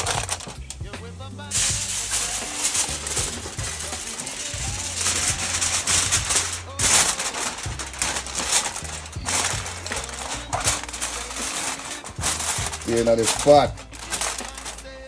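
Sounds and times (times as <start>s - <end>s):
aluminium foil crinkling: 0.0s - 15.0s
background music with bass: 0.0s - 15.0s.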